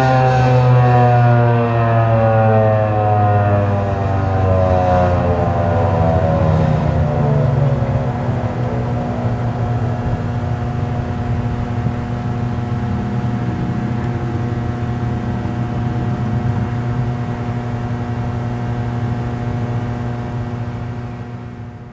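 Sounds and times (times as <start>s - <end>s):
steady mechanical drone: 0.0s - 21.9s.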